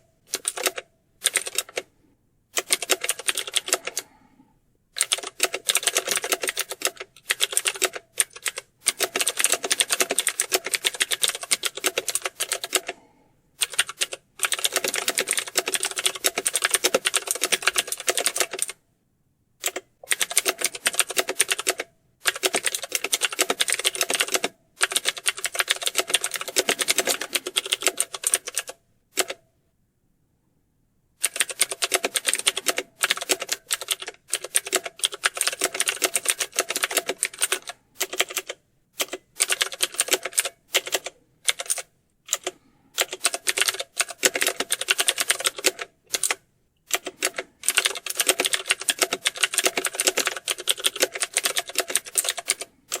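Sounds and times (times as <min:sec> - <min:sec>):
keyboard typing: 0:00.0 - 0:01.9, 0:02.6 - 0:04.1, 0:05.0 - 0:18.8, 0:19.6 - 0:29.4, 0:31.2 - 0:53.0.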